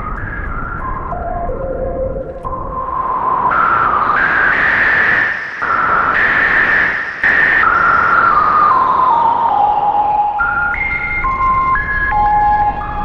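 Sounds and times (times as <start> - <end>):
synthesizer hiss with whistling tone: 0.0 - 13.0.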